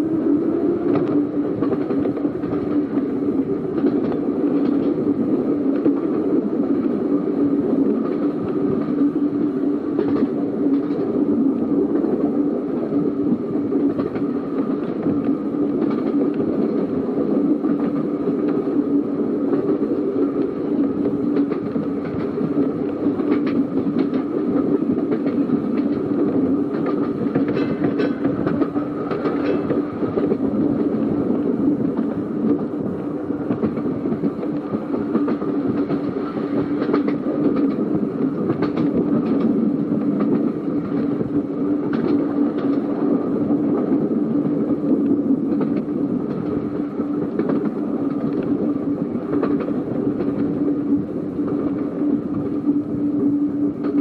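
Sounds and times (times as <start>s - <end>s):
tram motor whine: 0.0s - 54.0s
wheels rumbling on rails: 0.0s - 54.0s
wheels clicking over rail joints: 0.8s - 6.2s, 9.8s - 11.1s, 13.8s - 53.0s.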